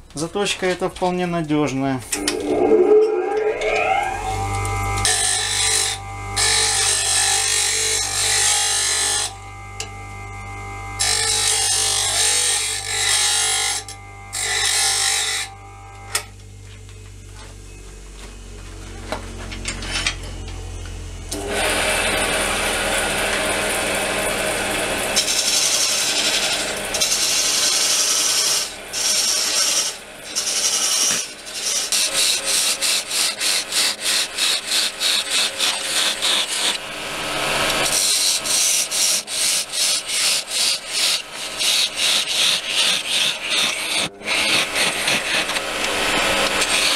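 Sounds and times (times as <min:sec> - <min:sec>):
motor hum: 0:02.0 - 0:46.9
wood lathe tool rasping: 0:02.2 - 0:16.4, 0:19.0 - 0:46.9
bench grinder grinding steel: 0:02.2 - 0:46.9.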